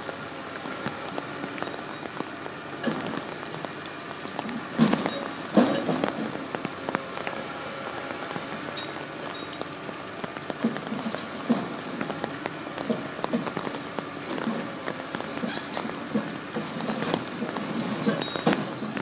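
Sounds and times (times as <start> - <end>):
rain patter: 0.0 - 19.0
excavator knocking and crunching: 0.1 - 19.0.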